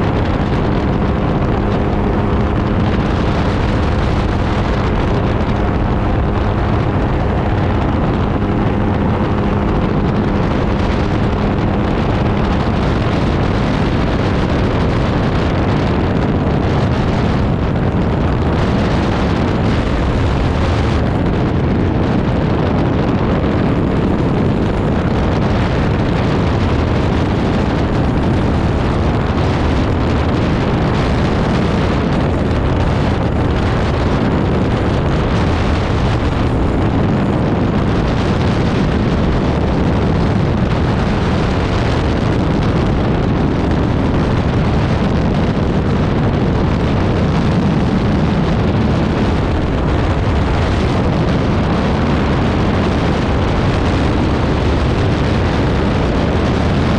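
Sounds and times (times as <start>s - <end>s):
aircraft engine running: 0.0s - 56.9s
wind buffeting microphone: 0.0s - 56.9s.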